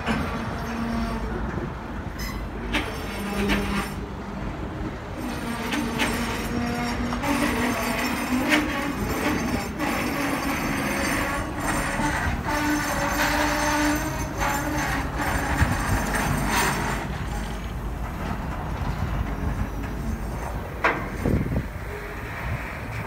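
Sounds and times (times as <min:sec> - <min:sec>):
train wheels rumbling on rail: 0:00.0 - 0:23.0
wheels clunking over rail joints: 0:00.0 - 0:23.0.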